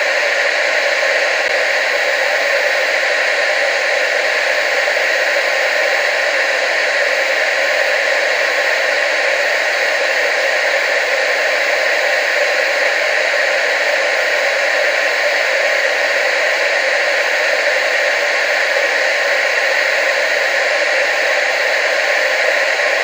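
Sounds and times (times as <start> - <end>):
television static hiss: 0.0 - 23.0.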